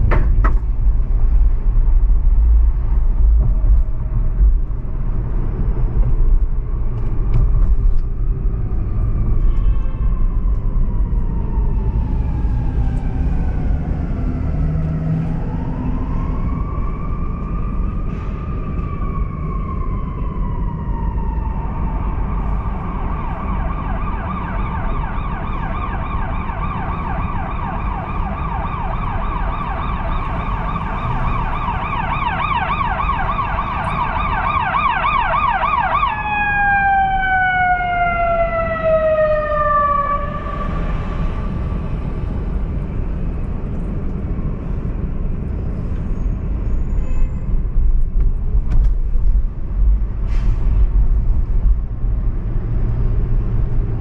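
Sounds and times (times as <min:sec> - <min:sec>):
low traffic rumble: 0:00.0 - 0:54.0
emergency vehicle siren: 0:02.8 - 0:54.0.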